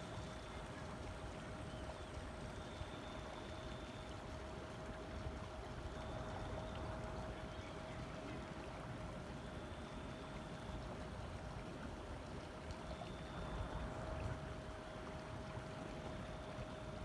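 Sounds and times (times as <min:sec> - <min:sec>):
boat motor hum: 0:00.0 - 0:17.0
water rushing: 0:00.0 - 0:17.0
wind: 0:00.0 - 0:17.0.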